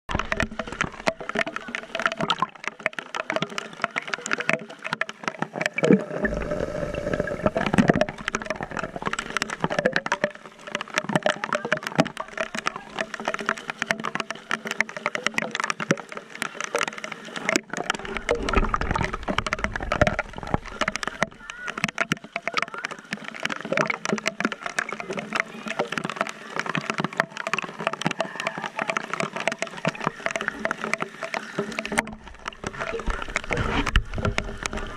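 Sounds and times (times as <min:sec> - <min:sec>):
hard rain on water: 0:00.1 - 0:34.9
water sloshing: 0:00.1 - 0:34.9.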